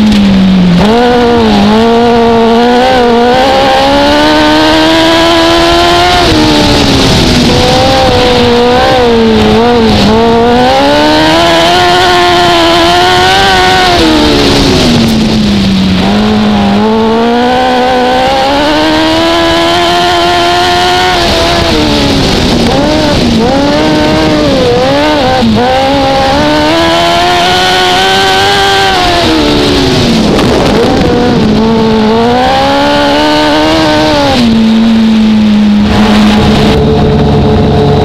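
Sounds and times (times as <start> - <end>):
race car engine running hard: 0.0 - 38.0.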